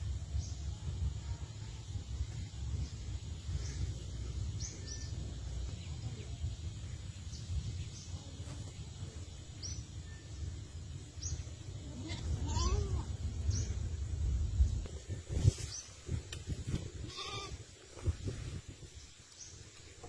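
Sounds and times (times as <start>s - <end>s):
steady low rumble: 0.0s - 19.9s
small birds chirping: 0.0s - 20.0s.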